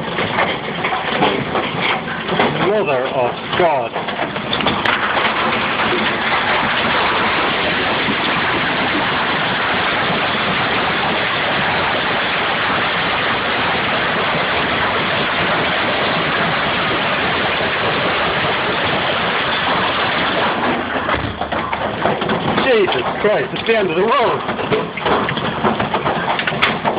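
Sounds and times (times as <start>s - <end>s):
hailstones hammering down: 0.0s - 26.9s.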